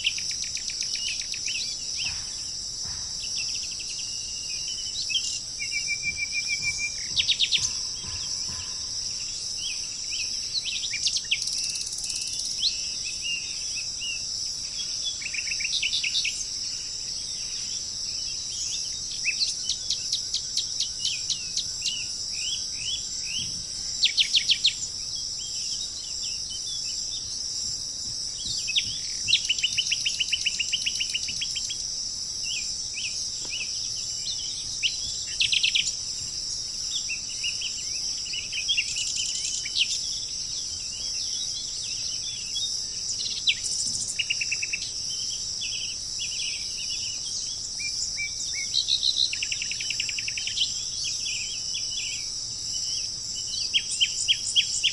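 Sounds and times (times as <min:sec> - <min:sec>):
insects chorus: 0:00.0 - 0:54.9
songbirds chipping and trilling: 0:00.0 - 0:54.9.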